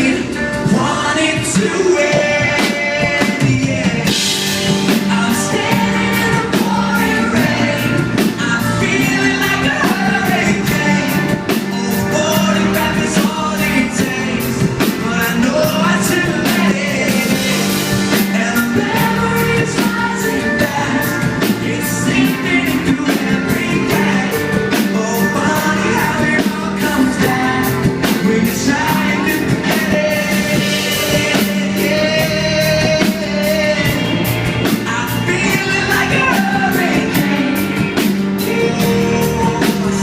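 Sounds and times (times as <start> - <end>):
drum-kit beat: 0.0 - 40.0
person singing: 0.0 - 40.0
pop-rock song: 0.0 - 40.0.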